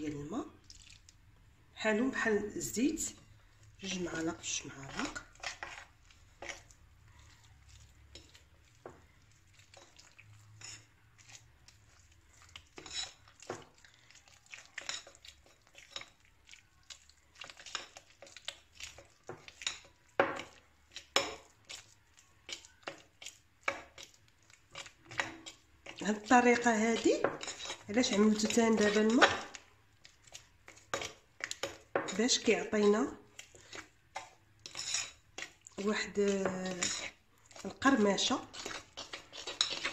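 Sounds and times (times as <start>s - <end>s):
spoon scraping glass bowl: 2.4s - 9.0s, 9.6s - 13.6s, 14.5s - 16.2s, 17.4s - 29.6s, 30.2s - 39.9s.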